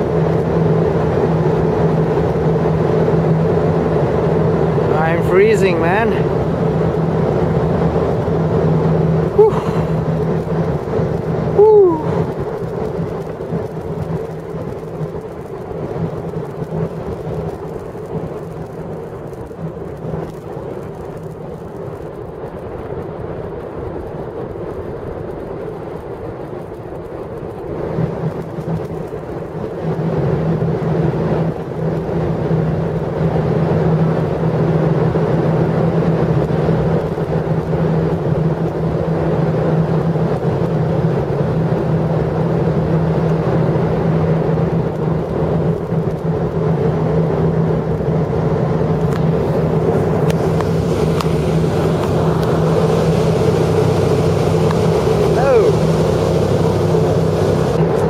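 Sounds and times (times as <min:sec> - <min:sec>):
distant jet airliner landing: 0:00.0 - 0:58.0.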